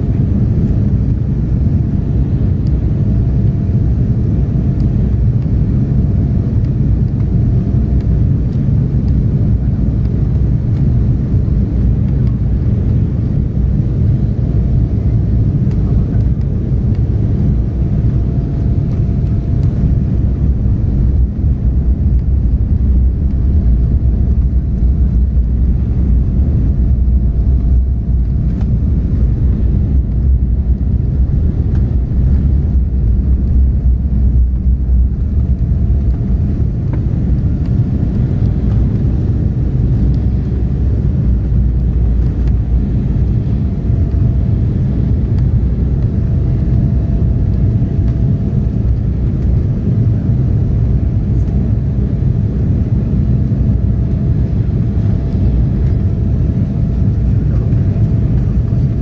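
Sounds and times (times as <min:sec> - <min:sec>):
faint steady whine: 0:00.0 - 0:59.0
jet engine cabin rumble: 0:00.0 - 0:59.0.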